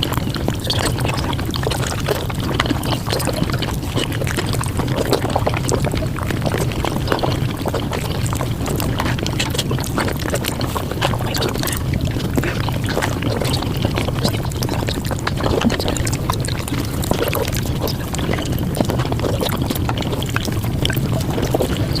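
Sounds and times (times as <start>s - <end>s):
eating clicks and smacks: 0.0s - 22.0s.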